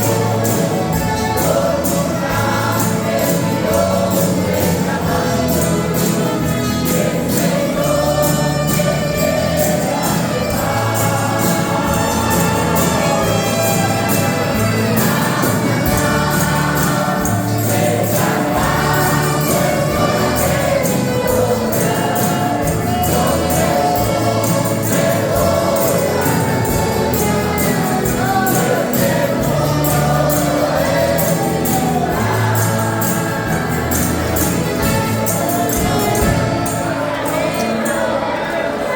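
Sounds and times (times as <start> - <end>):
steady percussion beat: 0.0 - 38.1
instrumental accompaniment with bass: 0.0 - 38.4
choir singing a gospel hymn: 0.0 - 38.9.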